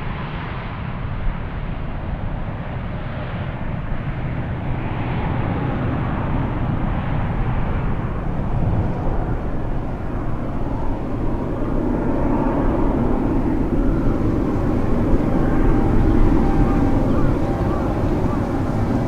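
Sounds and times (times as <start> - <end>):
jet engines rumbling: 3.6 - 19.0.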